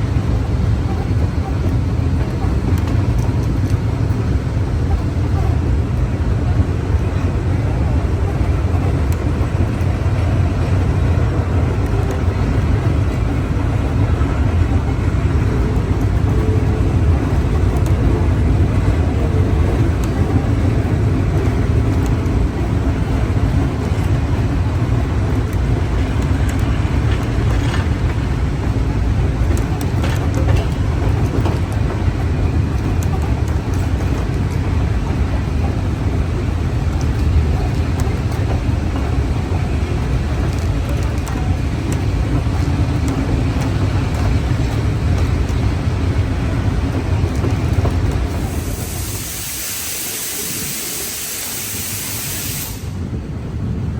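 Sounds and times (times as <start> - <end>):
train rumbling and rattling: 0.0 - 53.9.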